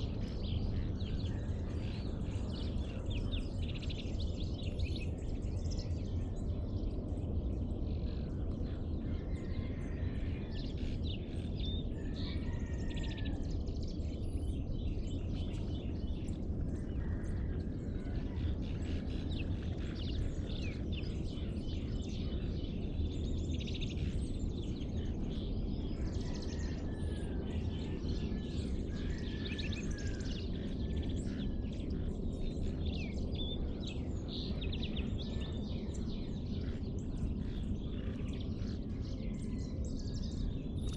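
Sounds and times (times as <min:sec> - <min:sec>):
birds chirping and singing: 0:00.0 - 0:40.9
low background rumble: 0:00.0 - 0:40.9.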